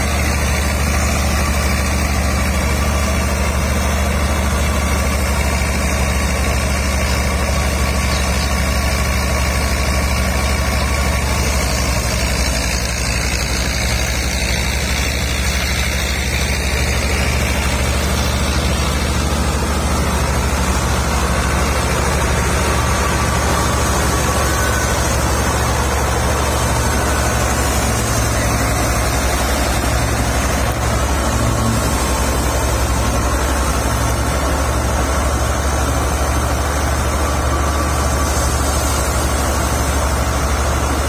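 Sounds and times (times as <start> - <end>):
thresher and tractor engine drone: 0.0 - 41.0.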